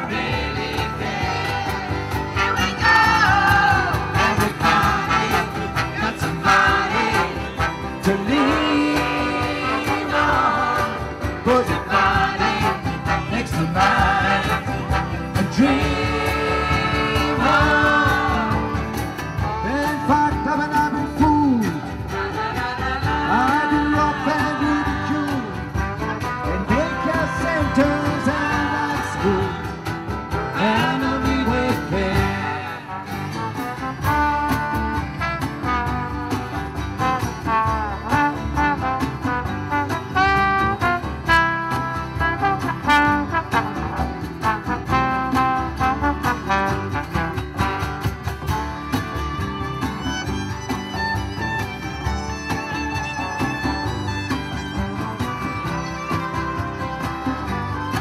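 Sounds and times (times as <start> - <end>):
trombone: 0.0 - 20.9, 21.5 - 29.6, 30.3 - 48.6
trumpet: 0.0 - 29.7, 30.3 - 58.0
mandolin: 0.0 - 58.0
strummed acoustic guitars: 0.0 - 58.0.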